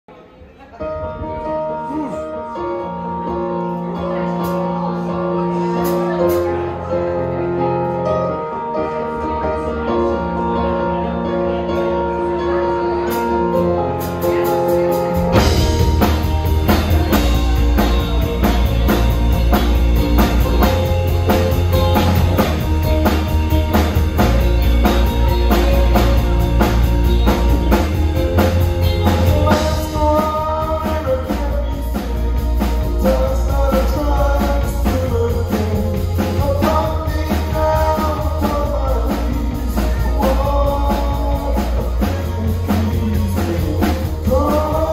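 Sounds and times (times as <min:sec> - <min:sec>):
keyboard chords: 0:00.2 - 0:44.9
rock band playing: 0:00.8 - 0:44.9.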